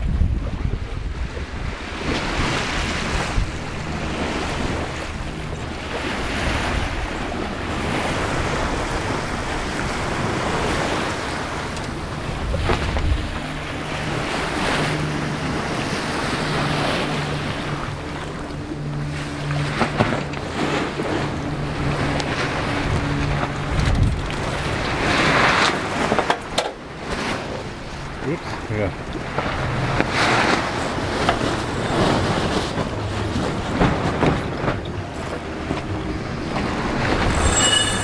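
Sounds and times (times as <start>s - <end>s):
water rushing along a hull: 0.0s - 38.0s
wind buffeting microphone: 0.0s - 38.0s.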